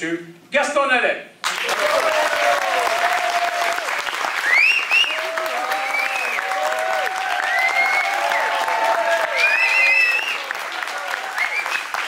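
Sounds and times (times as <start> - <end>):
audience applauding: 1.4 - 12.0
people cheering: 1.5 - 12.0.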